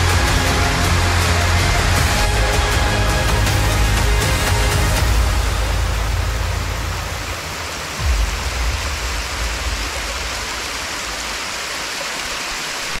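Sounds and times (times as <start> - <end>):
water falling at waterfall: 0.0 - 13.0.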